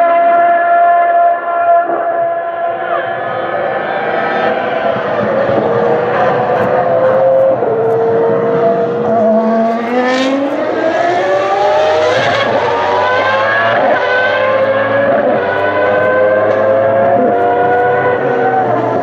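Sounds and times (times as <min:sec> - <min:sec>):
race car engine accelerating: 0:02.8 - 0:19.0.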